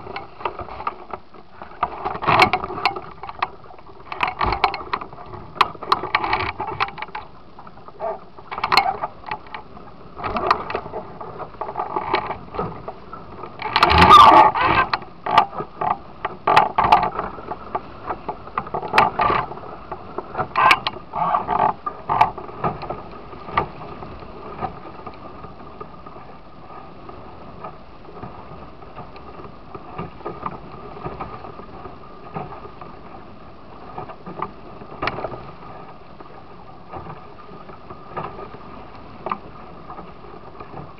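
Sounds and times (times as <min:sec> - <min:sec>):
boat hull slapping water: 0:00.0 - 0:40.9
wind noise on microphone: 0:00.0 - 0:40.9.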